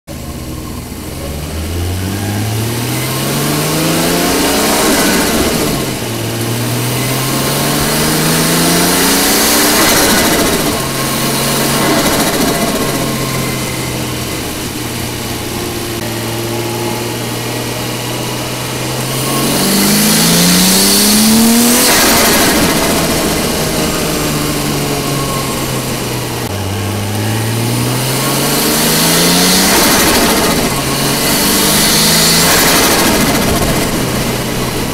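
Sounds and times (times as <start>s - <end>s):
turbocharged engine revving: 0.1s - 34.9s.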